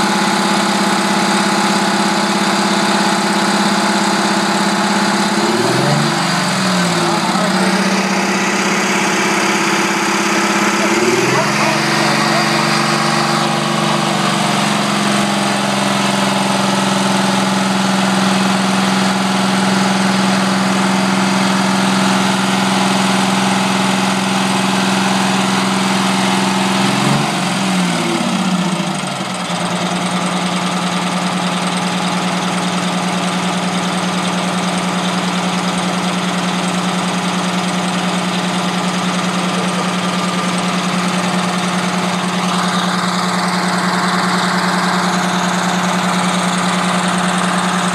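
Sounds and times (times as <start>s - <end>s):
bus diesel engine running: 0.0s - 47.9s.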